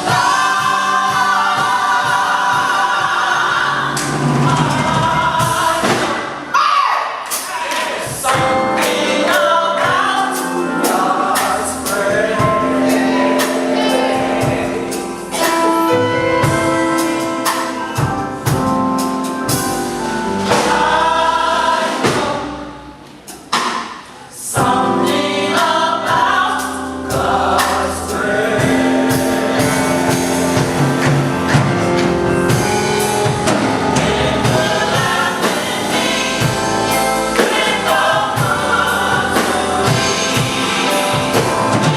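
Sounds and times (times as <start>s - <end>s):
gospel choir singing: 0.0s - 41.9s.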